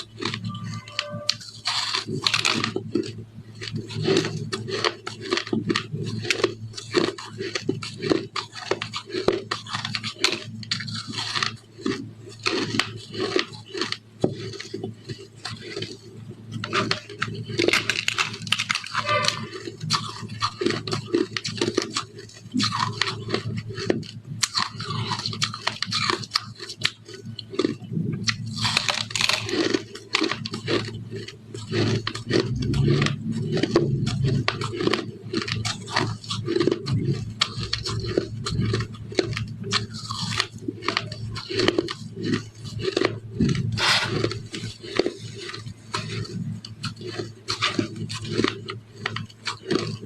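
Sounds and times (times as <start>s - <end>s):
chewing ice crunches: 0.0s - 50.0s.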